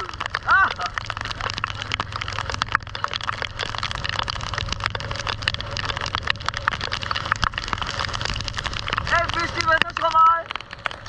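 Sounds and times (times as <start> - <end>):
heavy rain hitting microphone: 0.0 - 11.0
motorcycle engine rumble: 0.0 - 11.0.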